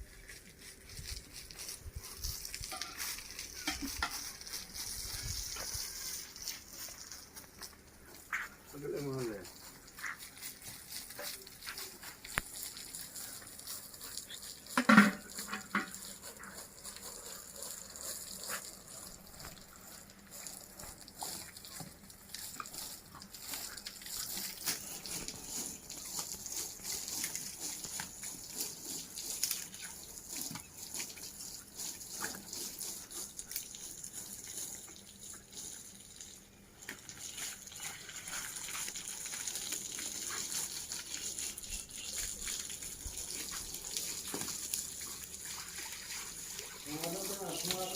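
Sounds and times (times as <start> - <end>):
water splashing: 0.0 - 47.9.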